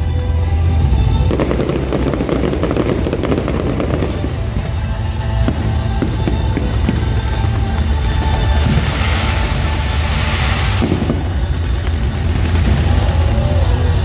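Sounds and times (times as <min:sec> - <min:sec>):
fireworks crackling and popping: 0:00.0 - 0:14.0
music: 0:00.0 - 0:14.0.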